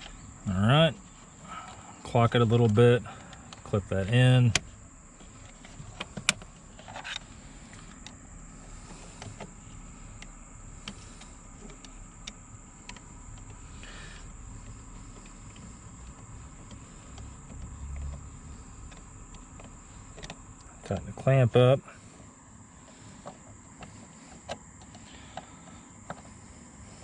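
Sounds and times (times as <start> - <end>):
insect chirring: 0.0 - 27.0.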